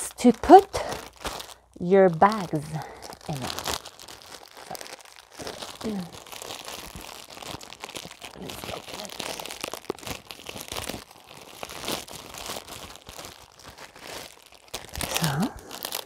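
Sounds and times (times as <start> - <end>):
plastic bag crinkling and tearing: 0.0 - 16.0.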